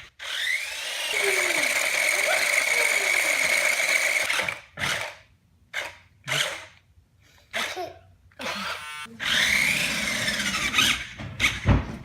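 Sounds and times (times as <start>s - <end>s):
toy electric motor whining: 0.0s - 6.8s, 8.4s - 11.6s.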